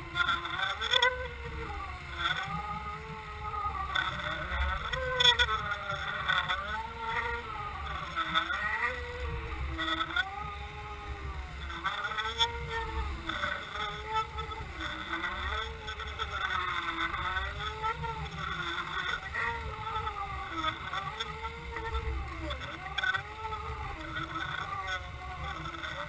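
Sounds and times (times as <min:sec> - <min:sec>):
boat motor underwater: 0:00.0 - 0:26.0.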